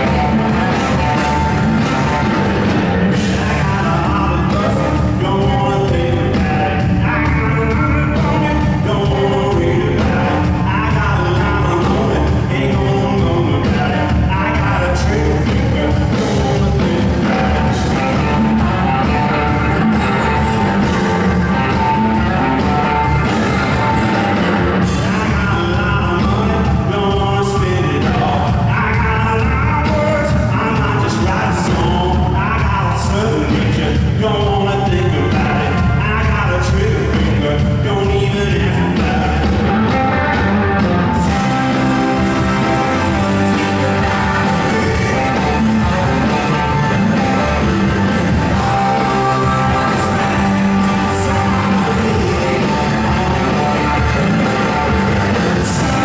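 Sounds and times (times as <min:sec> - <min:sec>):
live blues-rock band playing: 0:00.0 - 0:56.0.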